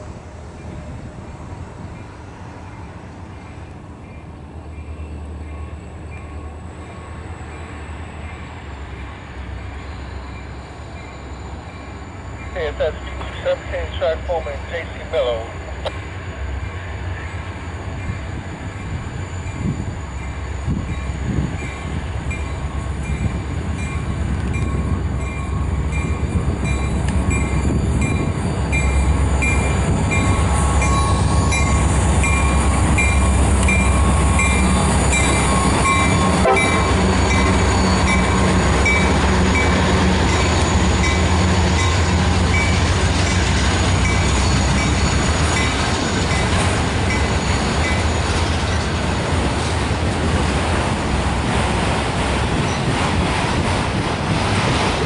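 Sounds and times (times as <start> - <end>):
diesel locomotive engines: 0.0 - 55.0
train cars rumbling on rails: 0.0 - 55.0.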